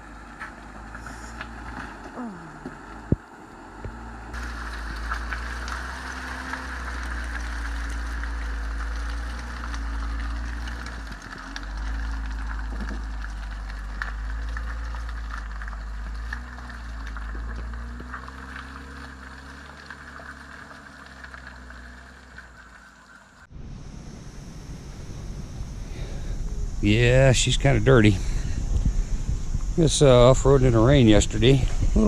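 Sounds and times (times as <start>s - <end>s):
vehicle engine at low revs: 0.0s - 32.0s.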